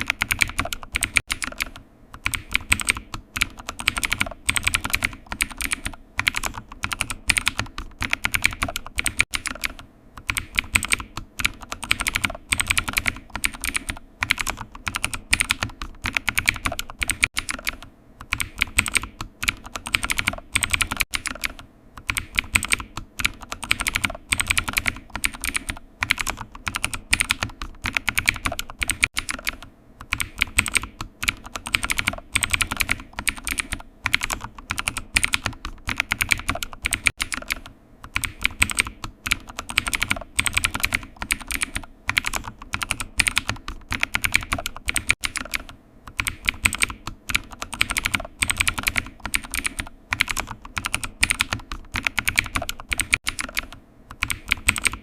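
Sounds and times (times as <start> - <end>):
typing on a keyboard: 0.0 - 55.0.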